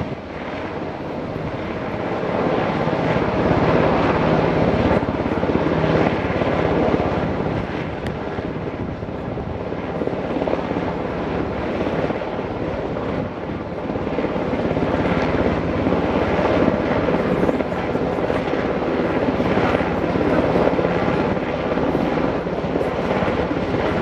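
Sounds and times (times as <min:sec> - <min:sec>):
helicopter engine running: 0:00.0 - 0:24.0
helicopter rotor beating: 0:00.0 - 0:24.0.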